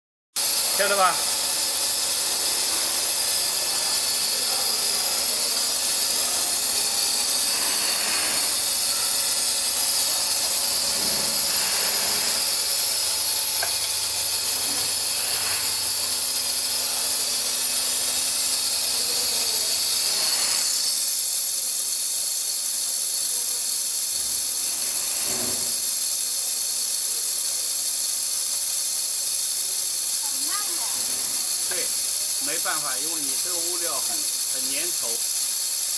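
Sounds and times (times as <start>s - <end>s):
machine hissing: 0.4s - 35.9s.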